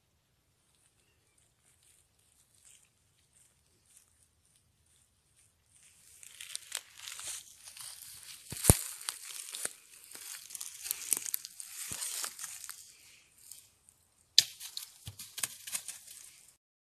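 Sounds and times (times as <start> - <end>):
dry leaves crackling and rustling: 1.6 - 13.6, 14.4 - 16.5.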